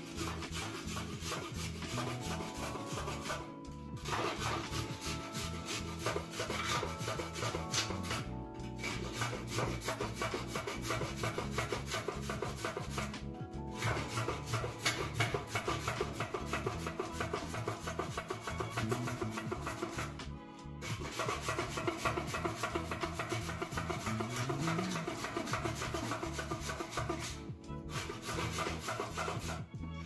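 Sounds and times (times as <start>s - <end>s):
carrot grated on metal grater: 0.0s - 13.2s, 13.8s - 20.2s, 20.8s - 29.6s.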